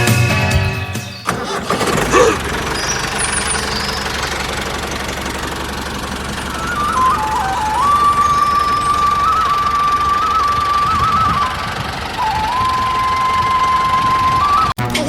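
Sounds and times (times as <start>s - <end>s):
engine starting and running: 0.3s - 15.0s.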